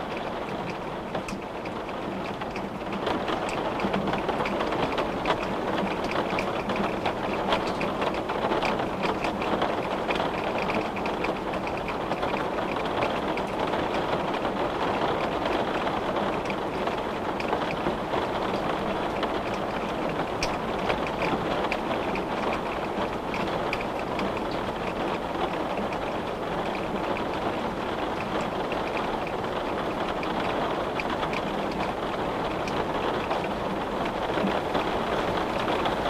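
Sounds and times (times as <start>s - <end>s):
rain on a window: 0.0s - 36.0s.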